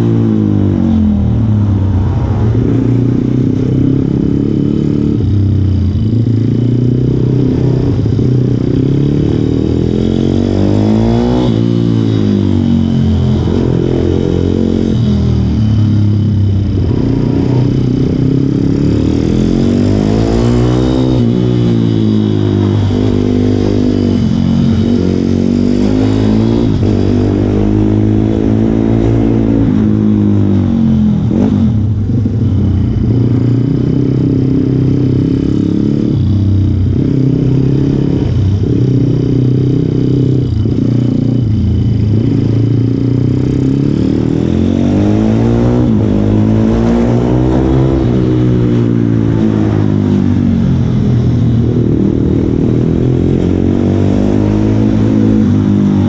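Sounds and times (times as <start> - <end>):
go-kart engine revving: 2.8 - 56.0.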